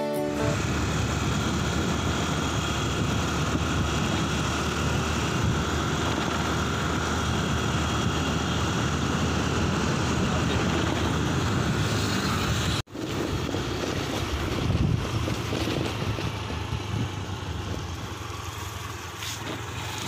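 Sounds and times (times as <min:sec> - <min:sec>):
road noise: 0:00.0 - 0:20.0
motorcycle engine rumble: 0:00.2 - 0:20.0
wind buffeting microphone: 0:00.6 - 0:18.3.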